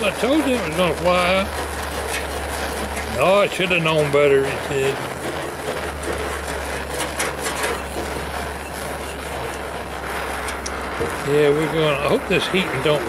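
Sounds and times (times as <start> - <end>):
scraper scraping paint: 0.0 - 13.0
torch flame rushing: 0.0 - 13.0.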